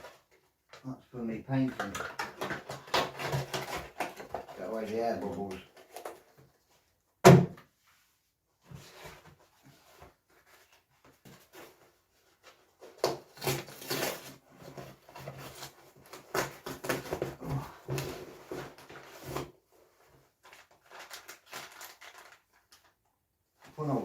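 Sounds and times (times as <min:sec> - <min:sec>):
items clattering and rustling: 0:01.5 - 0:07.5, 0:08.6 - 0:24.0.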